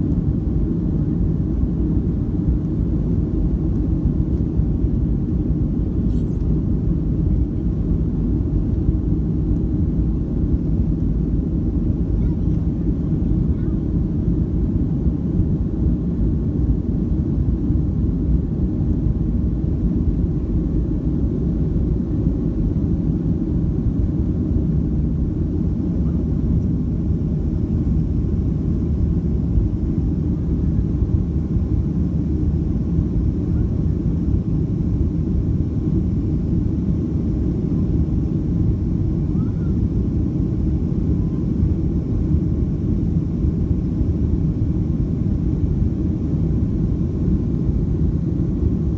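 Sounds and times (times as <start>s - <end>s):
jet engine rumble in cabin: 0.0s - 48.9s.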